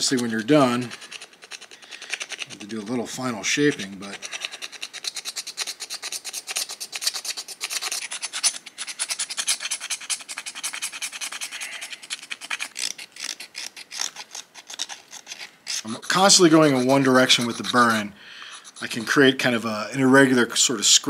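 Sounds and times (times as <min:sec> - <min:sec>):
stone tool scraping bone: 0:00.0 - 0:19.6.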